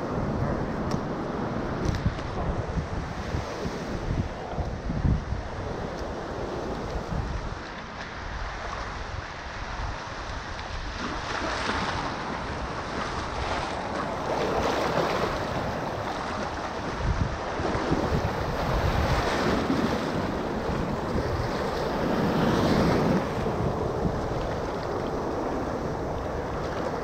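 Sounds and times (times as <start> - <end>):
surf washing in and out: 0.0 - 27.0
wind on microphone: 0.0 - 27.0.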